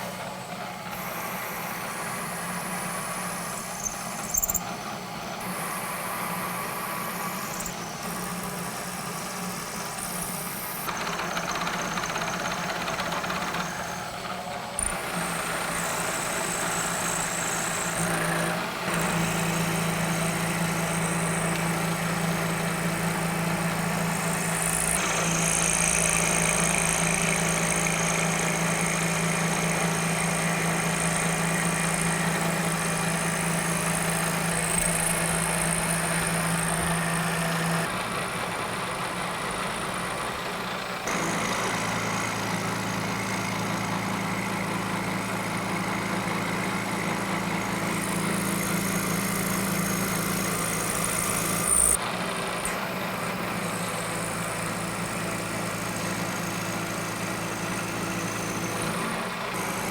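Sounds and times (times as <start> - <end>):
milling machine cutting whine: 0.0 - 59.9.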